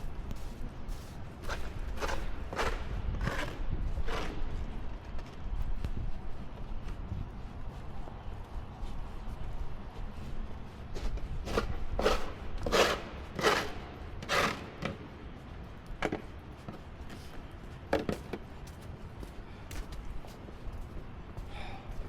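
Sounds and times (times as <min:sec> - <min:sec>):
footsteps crunching in snow: 0:00.0 - 0:22.0
low wind rumble: 0:00.0 - 0:22.0.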